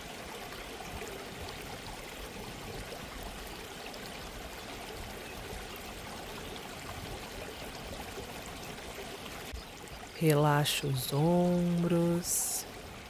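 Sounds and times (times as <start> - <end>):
stream babbling: 0.0 - 13.0.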